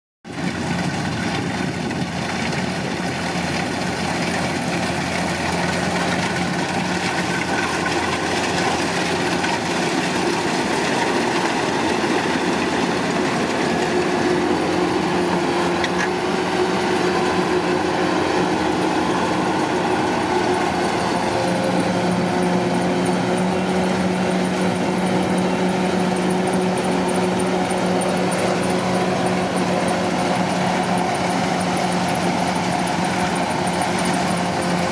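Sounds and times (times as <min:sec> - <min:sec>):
combine harvester droning: 0:00.3 - 0:34.9.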